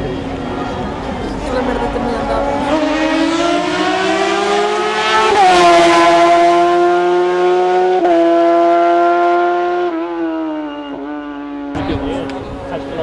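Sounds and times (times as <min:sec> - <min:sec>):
race car engine at high revs: 0:00.1 - 0:13.0.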